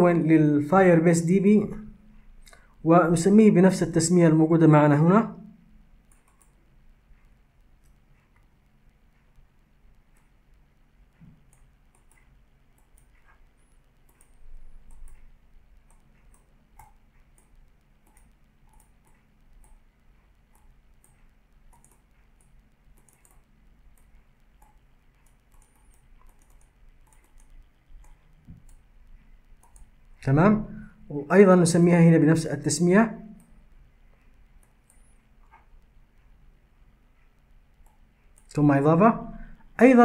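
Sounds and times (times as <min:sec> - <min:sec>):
low electrical hum: 0:00.0 - 0:40.0
keyboard typing and clicks: 0:05.2 - 0:40.0.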